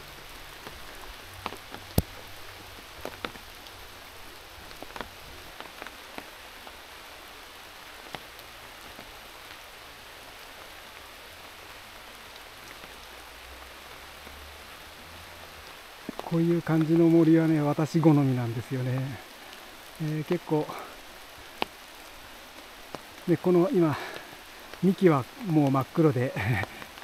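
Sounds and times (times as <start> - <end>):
rain falling in a forest: 0.0 - 27.0.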